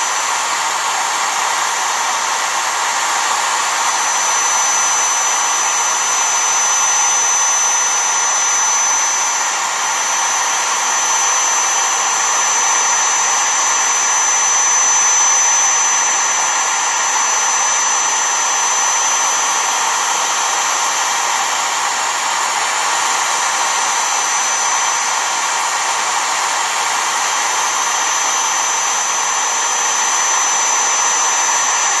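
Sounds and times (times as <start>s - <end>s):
router spindle high whine: 0.0s - 32.0s.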